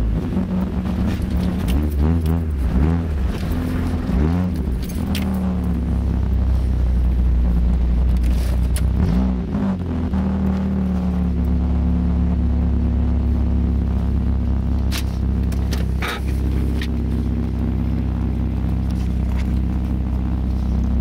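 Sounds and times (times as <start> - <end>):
car engine without muffler: 0.0 - 21.0.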